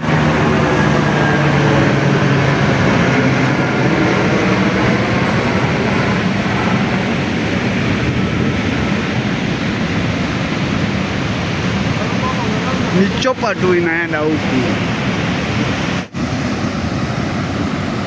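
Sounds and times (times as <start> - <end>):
helicopter drone: 0.0 - 18.0
rushing noise: 0.0 - 18.0.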